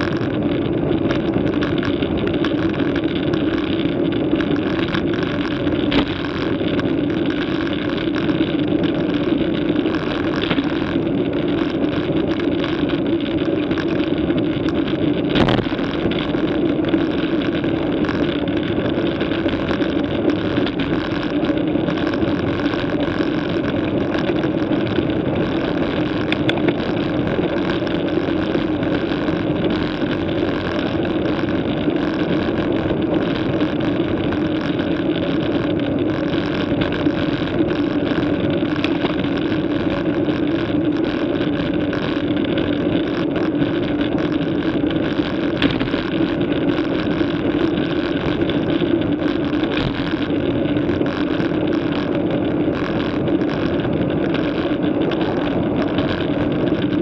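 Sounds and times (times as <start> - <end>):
bicycle road noise: 0.0 - 57.0.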